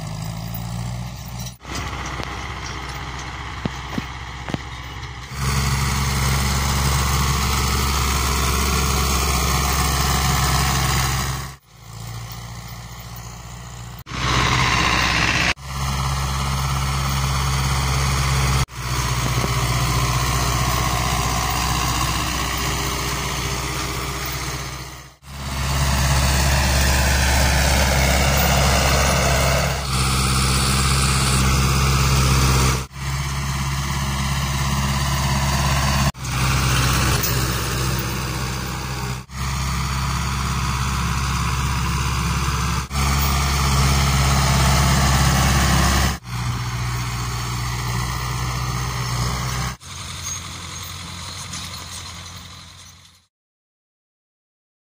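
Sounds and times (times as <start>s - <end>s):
tractor diesel engine under load: 0.0s - 53.3s.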